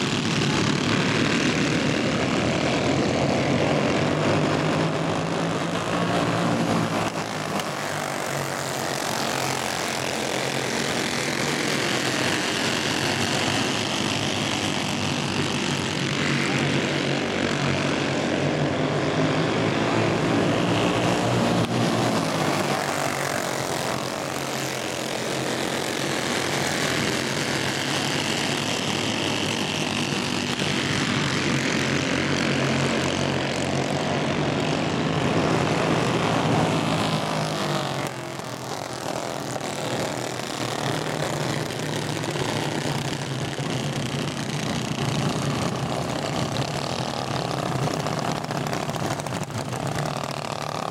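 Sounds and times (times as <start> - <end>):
go-kart engines buzzing: 0.0 - 50.9.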